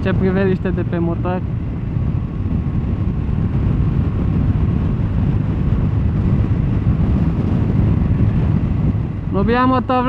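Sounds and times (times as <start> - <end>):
motorcycle engine rumble: 0.0 - 10.0
wind rush on microphone: 0.0 - 10.0.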